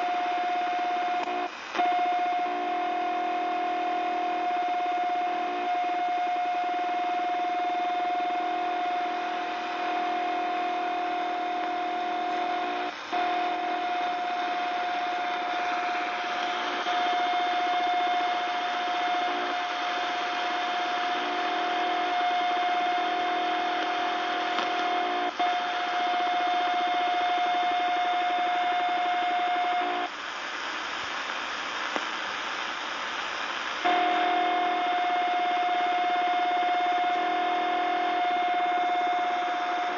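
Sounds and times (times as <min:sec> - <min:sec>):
radio static hiss: 0:00.0 - 0:39.9
steady high radio tone: 0:00.0 - 0:39.9.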